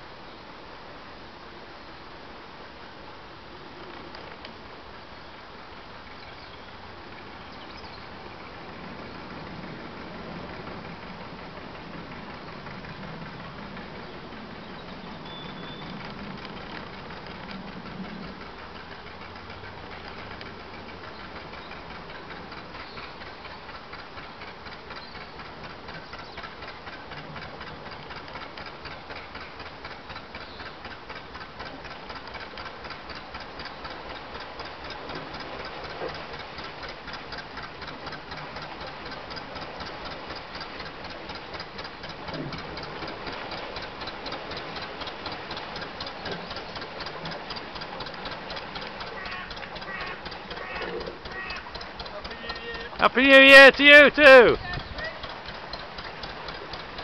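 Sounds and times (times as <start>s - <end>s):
boat engine steady beat: 4.6s - 57.0s.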